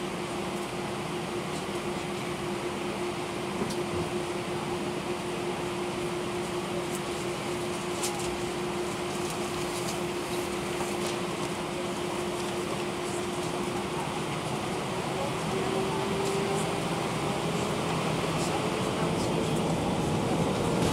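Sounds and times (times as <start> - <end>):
airplane cabin noise: 0.0 - 20.9.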